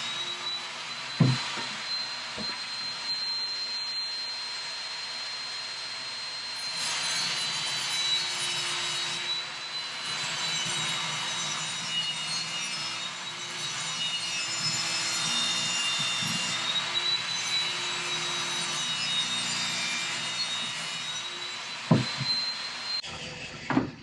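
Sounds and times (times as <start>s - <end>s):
power saw cutting board: 0.0s - 4.2s, 5.4s - 24.0s.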